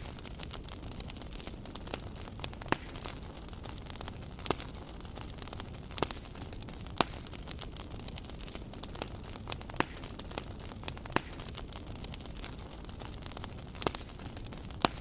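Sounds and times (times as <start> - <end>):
wood campfire crackling: 0.0 - 15.0.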